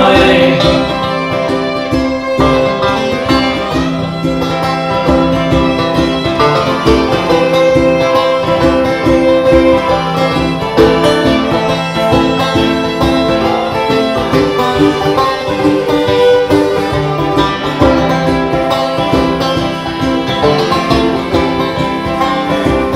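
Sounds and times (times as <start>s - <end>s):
bluegrass string band: 0.0s - 22.9s.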